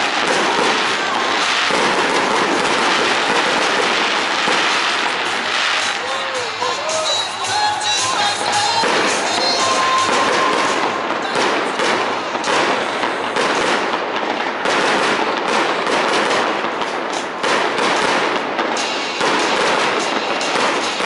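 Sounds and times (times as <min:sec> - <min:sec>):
fireworks crackling: 0:00.0 - 0:21.0
loud firework bursts: 0:00.0 - 0:21.0.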